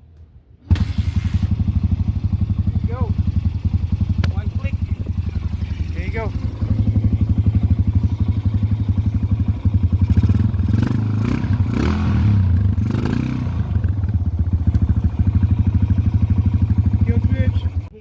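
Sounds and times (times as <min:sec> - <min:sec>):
motorcycle engine idling and revving: 0:00.7 - 0:18.0.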